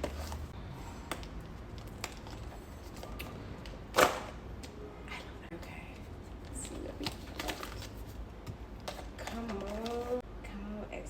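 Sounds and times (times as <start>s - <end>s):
box handling clicks and rustles: 0.0s - 4.7s, 5.6s - 10.2s.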